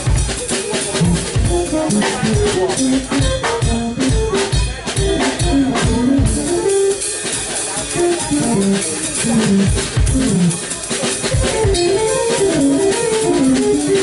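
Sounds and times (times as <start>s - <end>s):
drum kit playing: 0.0s - 14.0s
keytar playing: 0.9s - 14.0s.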